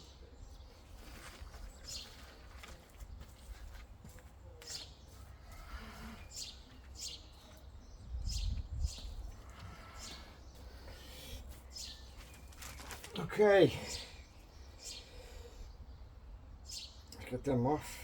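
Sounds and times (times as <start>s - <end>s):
bird chirping: 0.0s - 3.8s, 4.4s - 12.9s, 13.5s - 17.4s.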